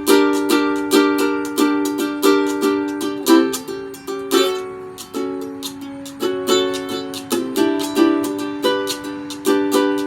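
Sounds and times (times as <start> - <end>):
ukulele strumming chords: 0.0 - 10.0.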